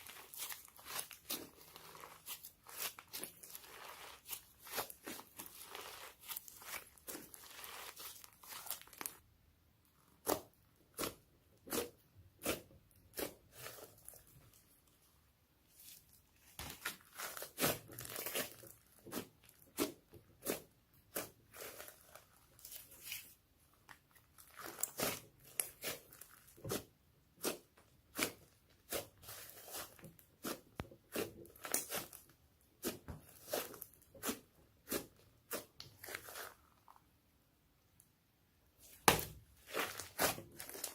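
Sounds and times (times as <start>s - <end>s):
slime kneaded by hand: 0.0s - 40.9s.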